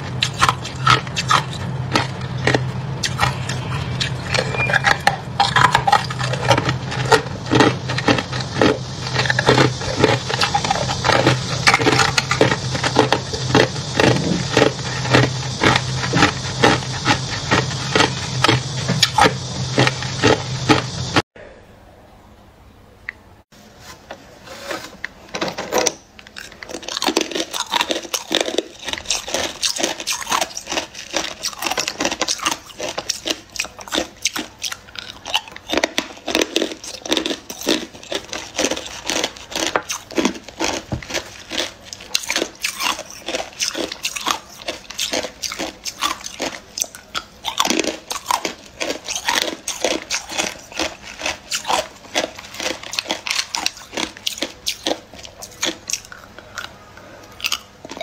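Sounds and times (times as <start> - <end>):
ice cubes being chewed: 0.0 - 21.2, 25.4 - 58.0.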